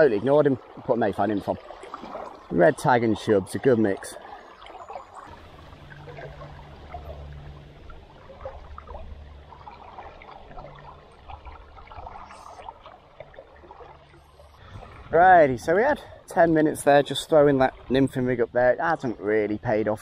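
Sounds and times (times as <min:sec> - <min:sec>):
river water trickling and gurgling: 0:00.0 - 0:20.0.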